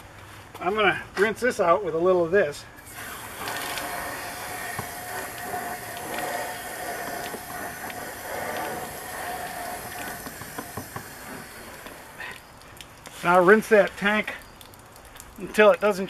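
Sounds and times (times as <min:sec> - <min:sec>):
hose water rushing hiss: 0:02.8 - 0:16.0.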